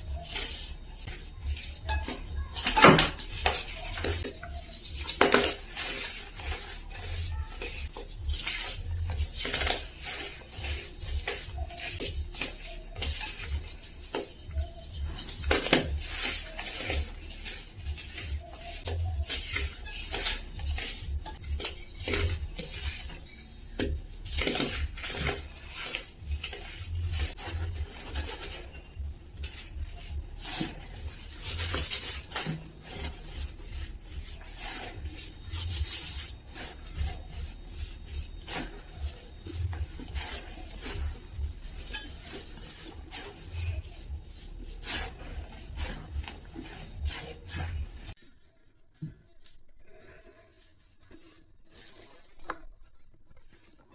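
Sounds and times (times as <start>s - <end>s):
dry material crumbling and crackling: 0.0s - 53.9s.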